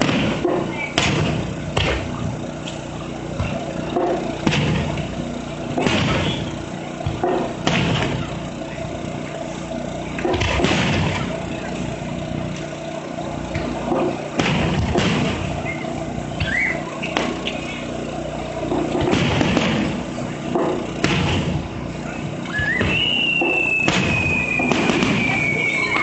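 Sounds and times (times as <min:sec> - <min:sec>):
fireworks booming: 0:00.0 - 0:12.5, 0:13.3 - 0:26.0.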